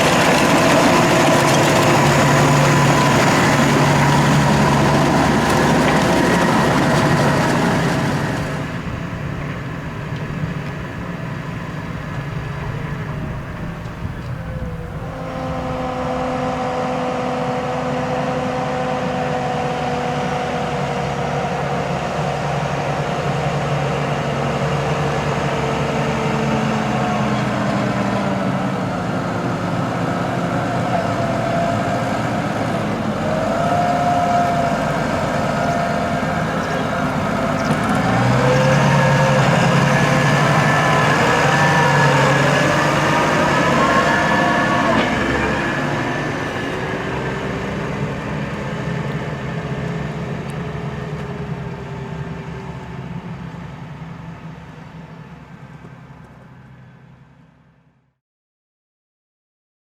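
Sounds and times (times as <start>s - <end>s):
diesel engine running: 0.0s - 57.6s.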